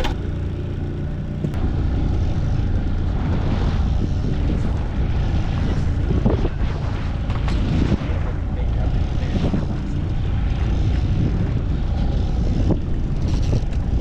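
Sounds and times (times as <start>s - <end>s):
boat motor droning: 0.0s - 14.0s
wind buffeting microphone: 0.0s - 14.0s.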